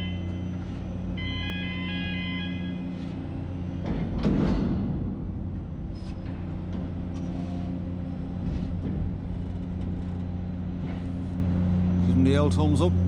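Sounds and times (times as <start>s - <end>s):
diesel machinery engine hum: 0.0s - 13.0s.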